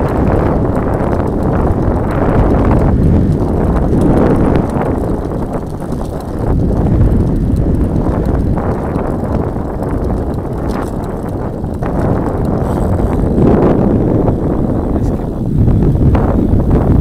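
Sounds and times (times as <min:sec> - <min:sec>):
bicycle tyres rumbling on tarmac: 0:00.0 - 0:17.0
wind rushing over microphone: 0:00.0 - 0:17.0.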